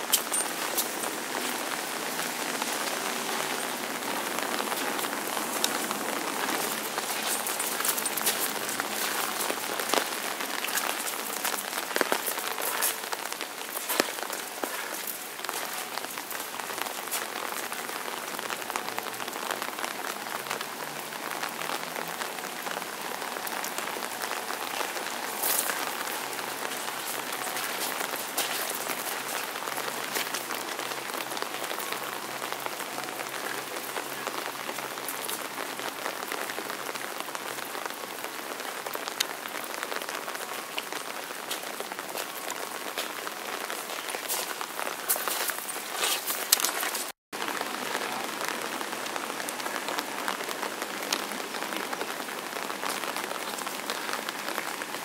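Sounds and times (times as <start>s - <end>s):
rain falling on asphalt: 0.0s - 55.0s.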